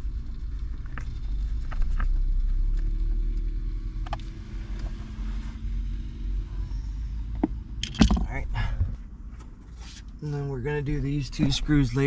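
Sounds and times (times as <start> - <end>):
steady low rumble with hum: 0.0 - 12.0.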